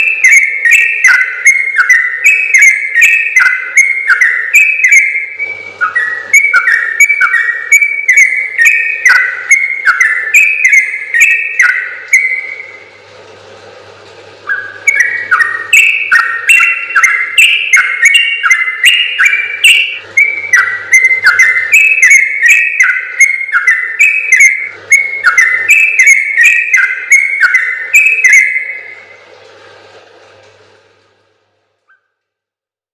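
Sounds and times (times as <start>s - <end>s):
bulbul whistled song: 0.0s - 13.0s, 14.4s - 29.1s, 31.8s - 32.2s.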